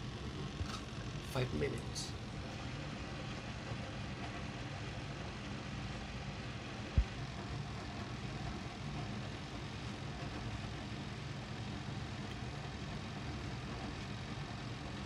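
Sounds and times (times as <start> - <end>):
toaster oven humming: 0.0 - 15.0.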